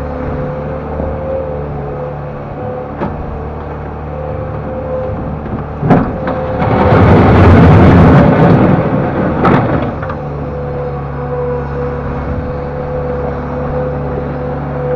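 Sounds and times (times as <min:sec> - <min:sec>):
loader engine running: 0:00.0 - 0:14.9.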